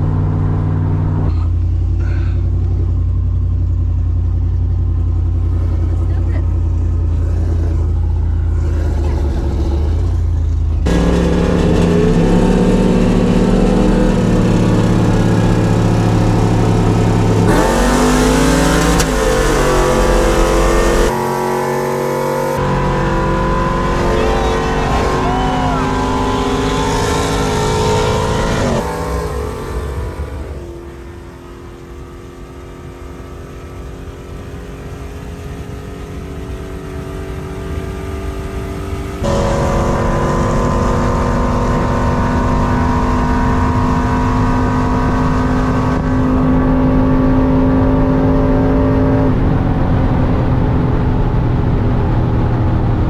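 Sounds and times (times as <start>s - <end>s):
truck engines accelerating hard: 0.0s - 53.0s.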